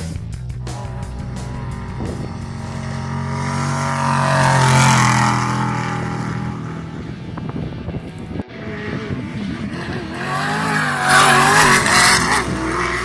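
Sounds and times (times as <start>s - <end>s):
race vehicle engine passing by: 0.6s - 13.0s
tyre noise: 0.6s - 13.0s.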